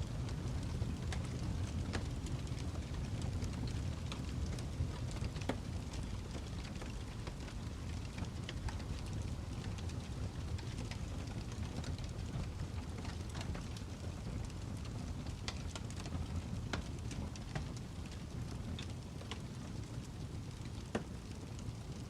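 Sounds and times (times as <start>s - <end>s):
fire crackling and popping: 0.0s - 22.0s
low rumble and hiss: 0.0s - 22.0s.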